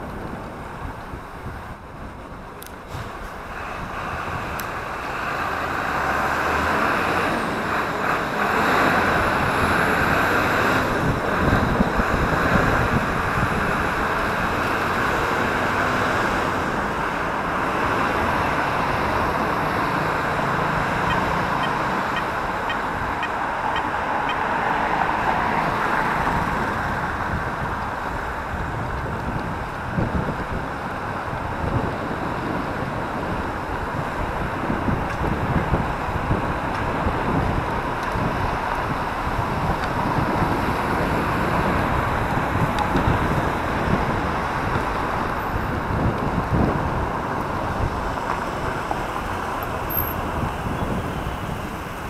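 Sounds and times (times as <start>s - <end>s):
car traffic passing: 0.0s - 52.0s
wind noise on microphone: 0.0s - 52.0s.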